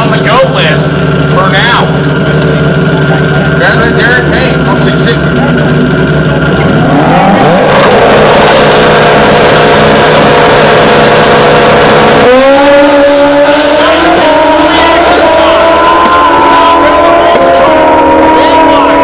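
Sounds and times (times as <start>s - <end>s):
motorcycle engine revving and accelerating: 0.0s - 19.0s.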